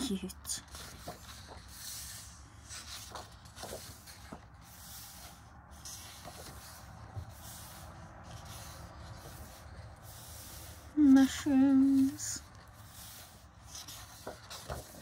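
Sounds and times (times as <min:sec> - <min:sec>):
paper pages swishing: 0:00.0 - 0:15.0.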